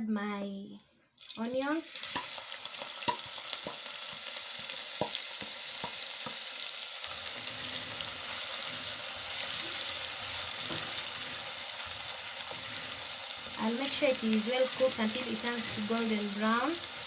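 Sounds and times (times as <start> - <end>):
onions sizzling in oil: 1.2 - 17.0.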